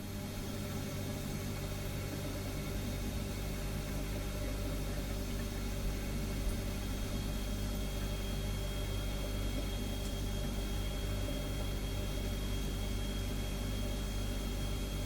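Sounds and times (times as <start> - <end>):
refrigerator compressor hum: 0.0 - 15.0.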